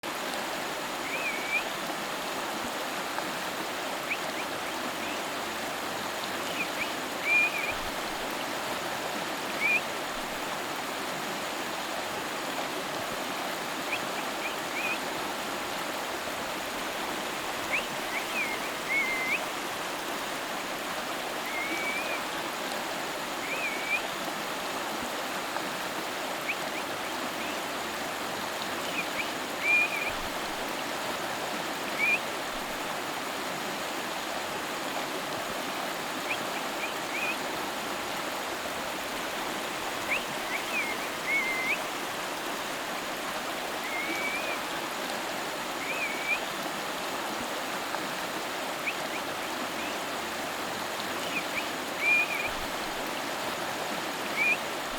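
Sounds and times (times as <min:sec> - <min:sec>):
river flowing over rocks: 0:00.0 - 0:54.9.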